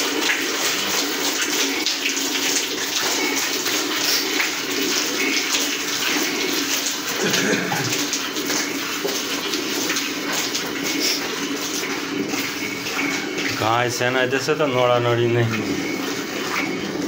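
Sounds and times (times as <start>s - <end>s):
milk squirting into metal bucket: 0.0s - 17.0s.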